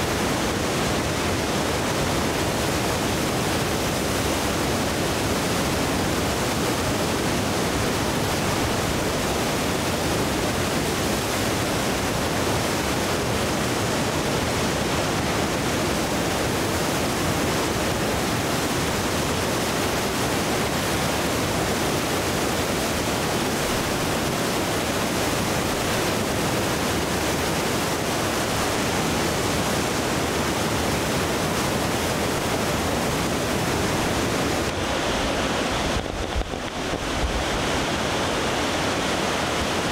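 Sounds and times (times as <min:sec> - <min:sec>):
water rushing through rapids: 0:00.0 - 0:39.9.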